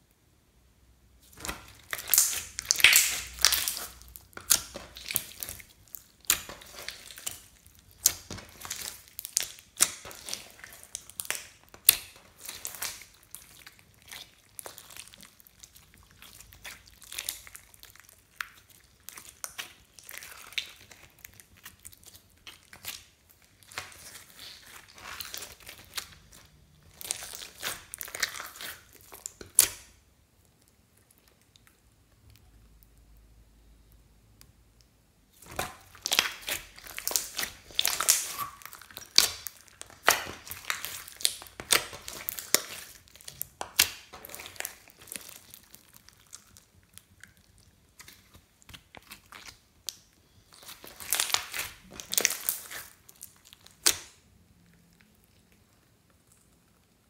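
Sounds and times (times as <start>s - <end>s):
slime crackling and squelching: 1.2s - 33.3s, 35.2s - 57.0s.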